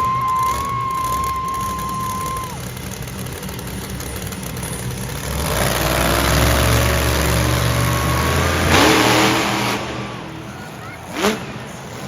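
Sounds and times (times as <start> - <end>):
monster truck engine running: 0.0 - 12.0.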